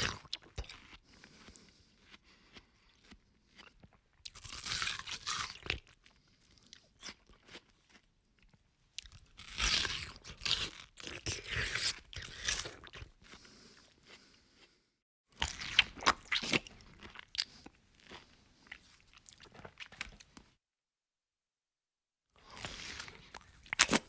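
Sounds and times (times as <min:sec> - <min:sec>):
person chewing crunchy food: 0:00.0 - 0:20.6, 0:22.4 - 0:24.0.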